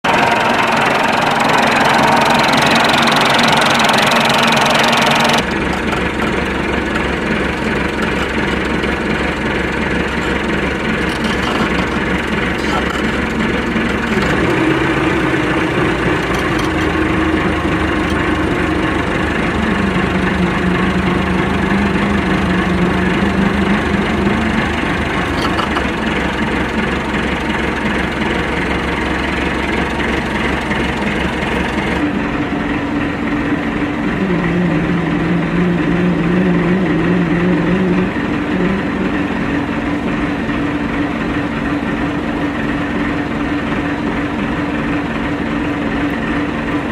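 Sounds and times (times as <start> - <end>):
droning tone dropping in pitch: 0.0 - 27.9, 30.2 - 42.0
tractor engine idling: 0.0 - 46.9.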